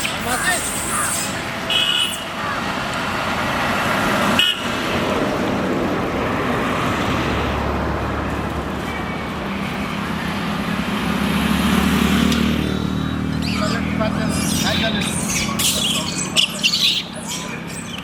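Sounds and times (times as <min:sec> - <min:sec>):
road traffic: 0:00.0 - 0:18.0
vehicle engine approaching: 0:00.0 - 0:18.0.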